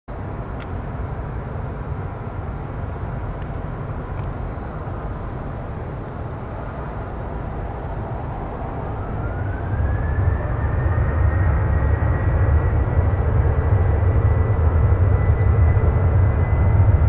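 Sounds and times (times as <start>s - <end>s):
jet engines low rumble: 0.1s - 17.0s
rising jet engine whine: 0.1s - 17.0s.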